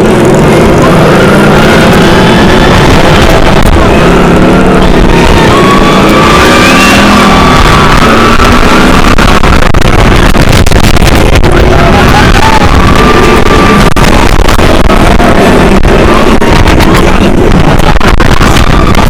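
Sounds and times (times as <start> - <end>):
ride music: 0.0 - 19.0
roller coaster rumbling on track: 0.0 - 19.0.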